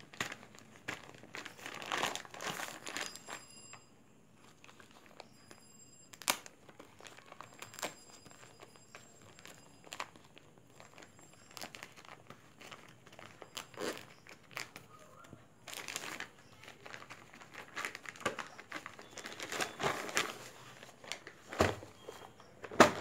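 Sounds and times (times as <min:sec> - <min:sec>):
plastic mailer crinkling: 0:00.0 - 0:03.6, 0:04.4 - 0:23.0.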